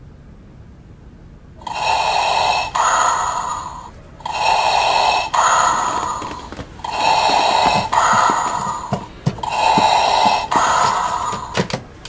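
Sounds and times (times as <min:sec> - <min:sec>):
hissing respirator breathing: 0:01.6 - 0:12.0.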